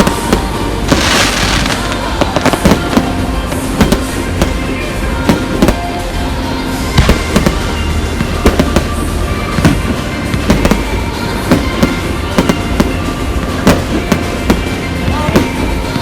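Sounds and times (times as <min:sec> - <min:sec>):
fireworks bangs: 0:00.0 - 0:16.0
low rumble: 0:00.0 - 0:16.0.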